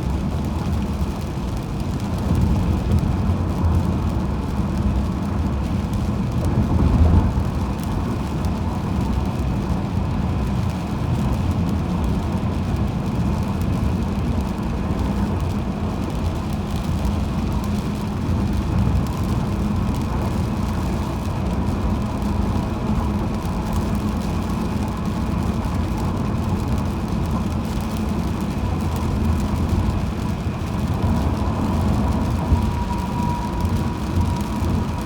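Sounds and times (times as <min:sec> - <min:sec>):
engine hum: 0:00.0 - 0:35.0
tyre and road rumble: 0:00.0 - 0:35.0.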